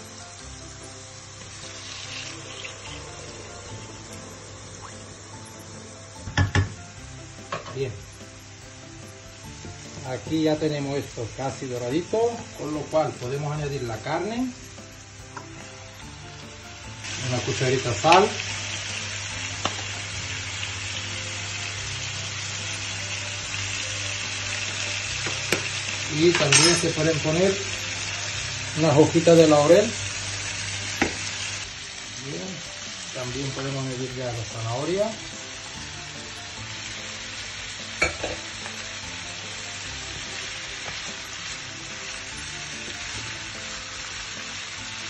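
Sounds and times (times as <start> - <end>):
meat sizzling in a frying pan: 0.0 - 45.0.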